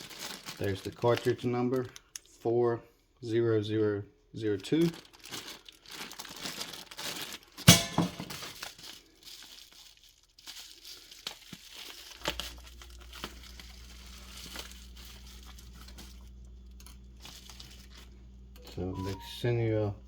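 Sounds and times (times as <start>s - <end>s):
plastic packaging crinkling: 0.0s - 2.4s, 4.4s - 19.2s.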